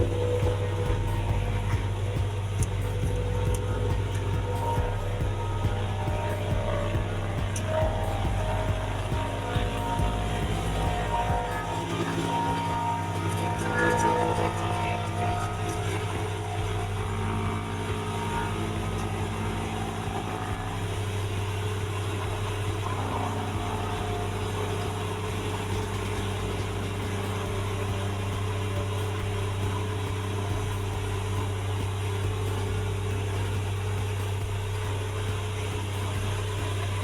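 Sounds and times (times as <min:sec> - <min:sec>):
tyre and road noise: 0:00.0 - 0:37.0
vehicle engine running: 0:00.0 - 0:37.0.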